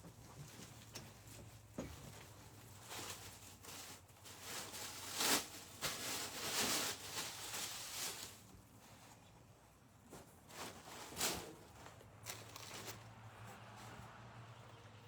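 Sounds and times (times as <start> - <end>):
rustling and handling noises: 0.0 - 14.8.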